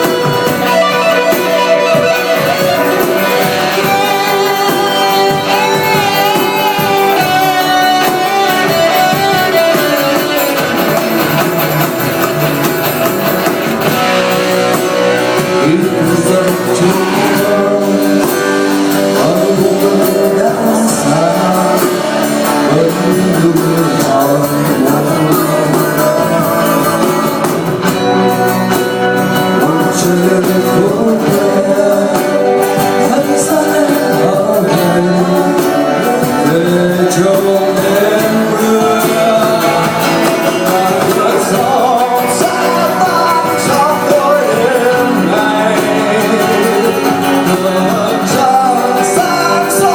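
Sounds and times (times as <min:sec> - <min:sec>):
person singing: 0:00.0 - 0:49.9
rock band playing live: 0:00.0 - 0:49.9.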